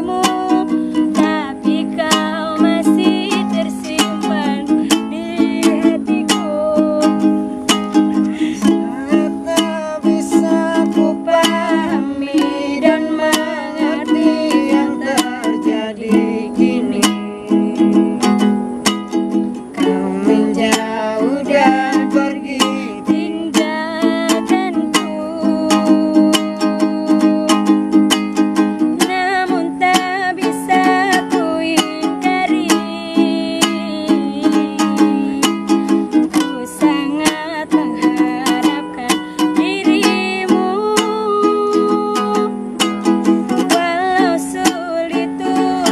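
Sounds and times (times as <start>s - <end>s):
man and woman singing duet: 0.0s - 45.9s
strummed ukulele: 0.0s - 45.9s.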